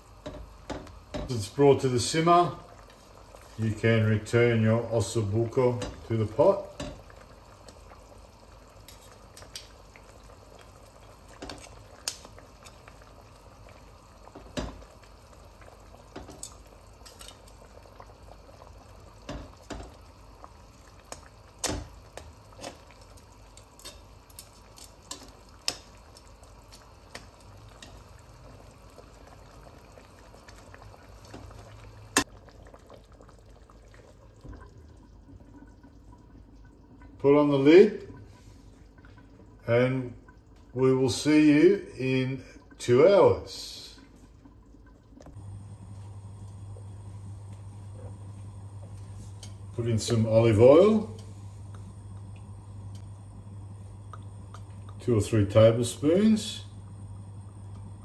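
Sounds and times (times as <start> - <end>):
sauce bubbling in a pot: 0.0 - 58.0.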